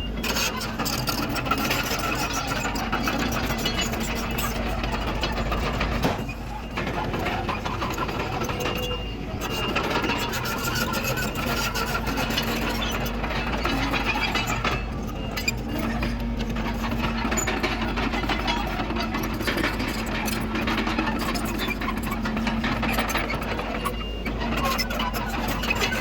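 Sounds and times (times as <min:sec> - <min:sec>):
bulldozer diesel engine running: 0:00.0 - 0:26.0
crawler tracks clattering and squeaking: 0:00.0 - 0:26.0.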